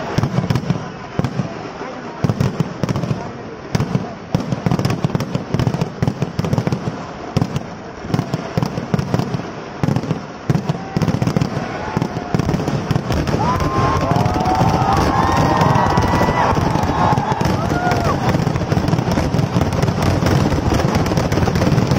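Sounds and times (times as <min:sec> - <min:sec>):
fireworks cracks and bangs: 0:00.0 - 0:21.9.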